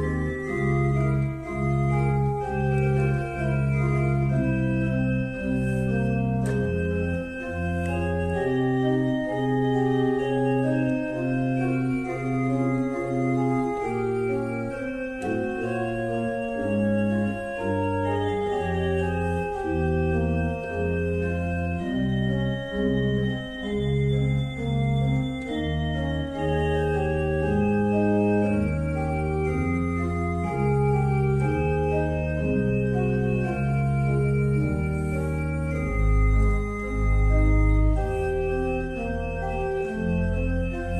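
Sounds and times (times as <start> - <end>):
organ music: 0.0 - 40.9.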